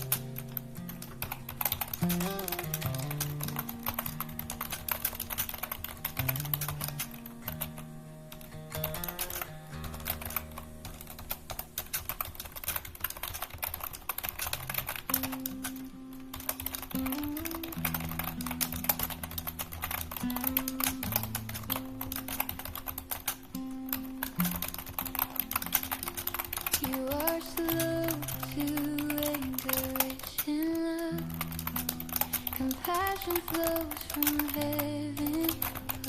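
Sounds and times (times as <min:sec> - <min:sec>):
soft instrumental music: 0:00.0 - 0:12.3, 0:14.4 - 0:36.0
rapid keyboard typing: 0:00.0 - 0:36.0.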